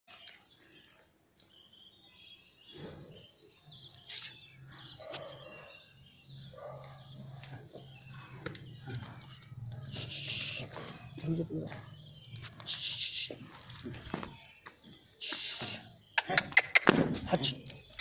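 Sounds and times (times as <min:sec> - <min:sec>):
faint small birds chirping: 0:00.1 - 0:18.0.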